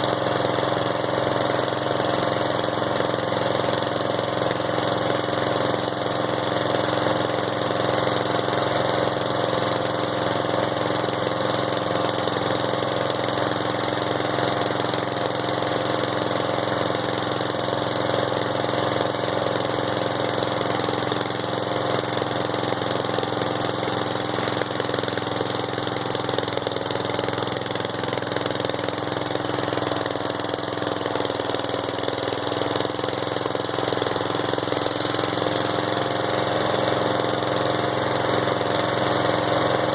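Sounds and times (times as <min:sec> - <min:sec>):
riding lawnmower engine running: 0:00.0 - 0:39.9.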